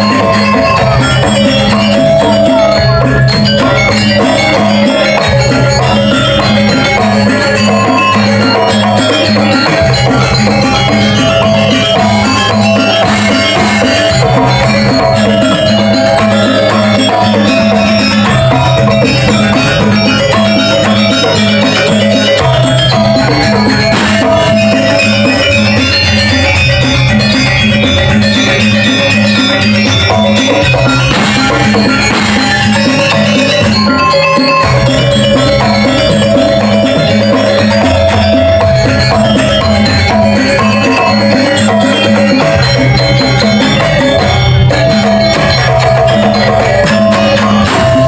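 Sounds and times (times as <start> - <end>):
drums playing rhythmic pattern: 0.0 - 48.0
tuned metal percussion: 0.0 - 48.0.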